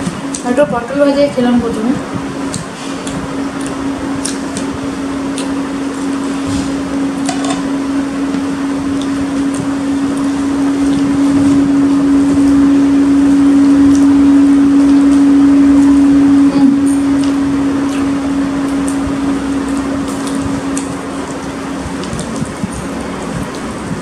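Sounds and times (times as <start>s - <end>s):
droning machine hum: 0.0s - 24.0s.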